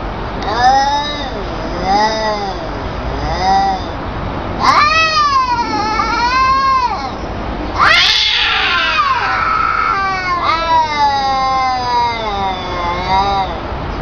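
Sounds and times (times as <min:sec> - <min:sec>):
cats yowling: 0:00.4 - 0:04.0, 0:04.6 - 0:13.7.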